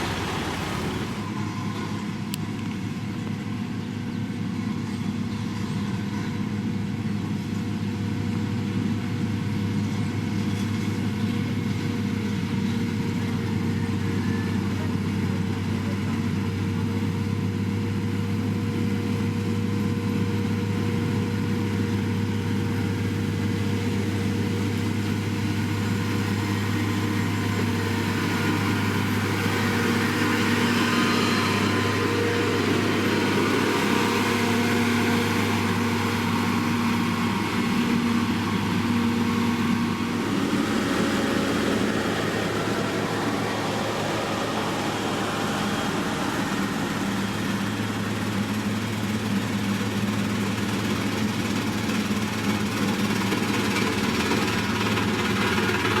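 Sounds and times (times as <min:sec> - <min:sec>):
diesel engine of heavy machinery: 0:00.0 - 0:56.0.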